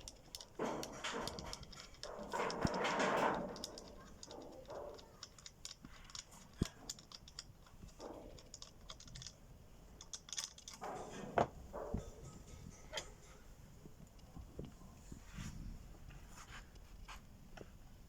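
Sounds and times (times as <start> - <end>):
hand tools clicking and tapping: 0.0 - 14.8
scraping and rustling: 0.0 - 17.7.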